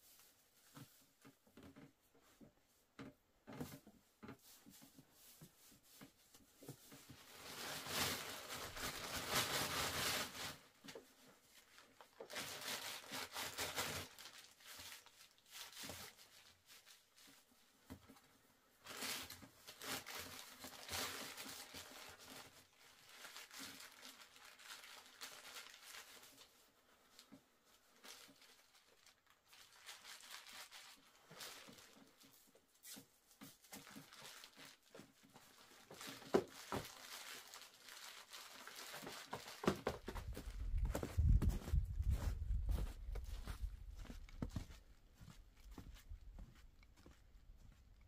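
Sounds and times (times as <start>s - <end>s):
rustling and crinkling handling: 0.0s - 48.0s.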